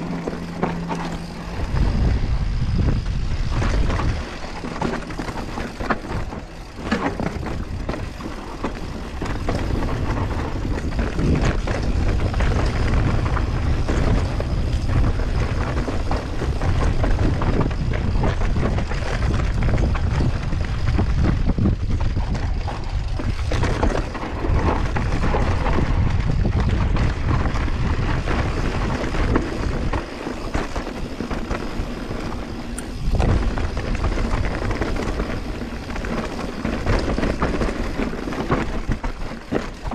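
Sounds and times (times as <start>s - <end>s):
bike rattling and clattering: 0.0s - 39.9s
tyres rolling over dirt: 0.0s - 39.9s
wind rushing over microphone: 0.0s - 39.9s.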